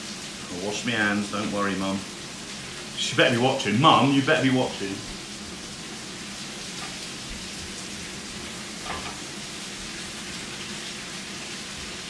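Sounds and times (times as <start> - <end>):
chicken and onions sizzling in pan: 0.0 - 12.0.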